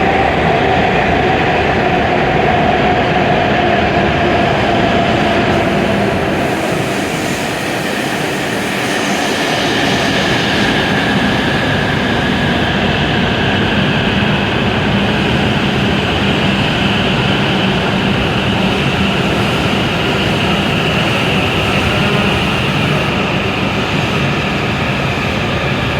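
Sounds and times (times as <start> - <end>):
train machine hum and whine: 0.0 - 25.9.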